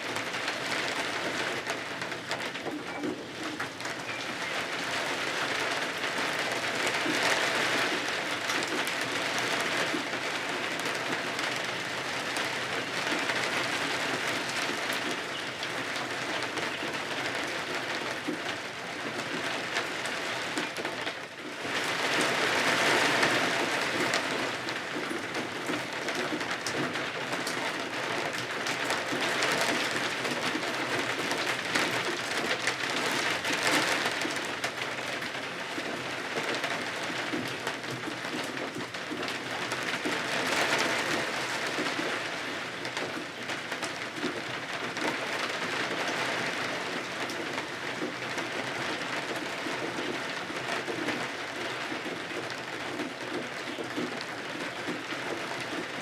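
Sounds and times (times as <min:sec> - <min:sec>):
heavy rain on windows and roof: 0:00.0 - 0:56.0.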